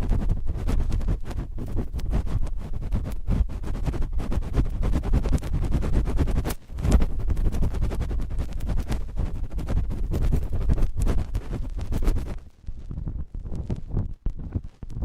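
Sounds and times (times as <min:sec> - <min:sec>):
cotton swabs scratching microphone: 0:00.0 - 0:15.0.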